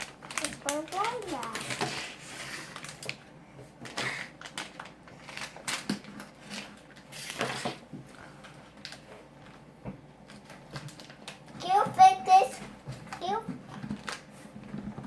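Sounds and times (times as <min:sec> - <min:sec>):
wrapper crinkling and rustling: 0:00.0 - 0:15.0.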